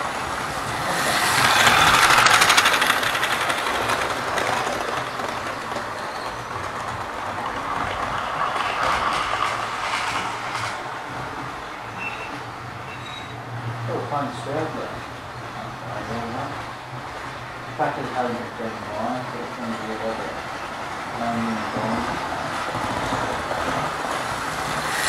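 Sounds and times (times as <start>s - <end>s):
model train whirring: 0.0s - 11.9s, 16.0s - 25.0s
wheels clicking over rail joints: 0.0s - 25.0s.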